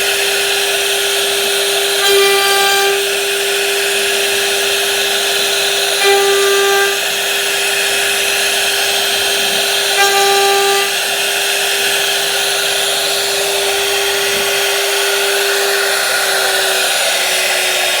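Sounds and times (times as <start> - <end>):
electric power tool motor whine: 0.0 - 18.0.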